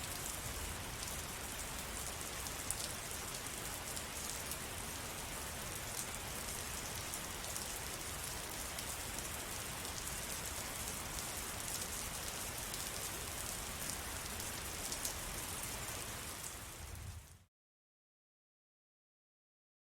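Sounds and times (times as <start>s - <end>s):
steady rain falling: 0.0s - 17.5s.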